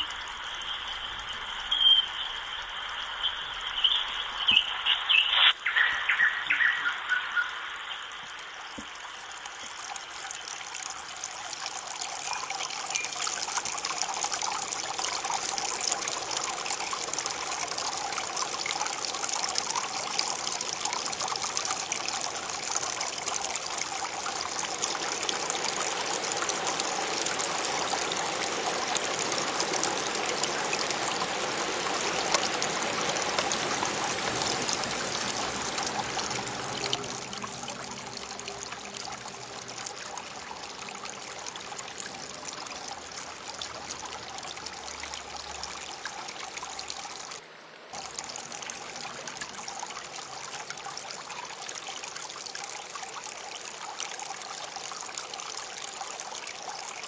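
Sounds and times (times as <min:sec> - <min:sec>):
stream trickling and burbling: 0:00.0 - 0:57.0.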